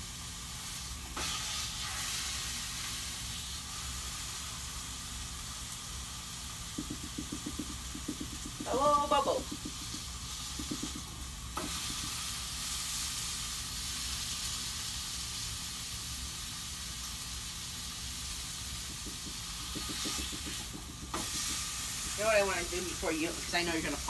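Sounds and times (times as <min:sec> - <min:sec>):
meat sizzling in a pan: 0:00.0 - 0:24.0.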